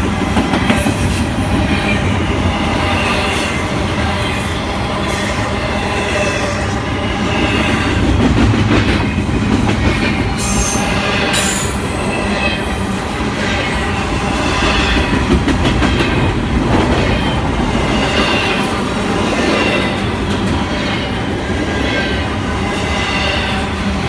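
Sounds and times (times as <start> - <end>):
freight train wheels rumbling: 0.0 - 24.0
train wheel squeals: 0.0 - 24.0.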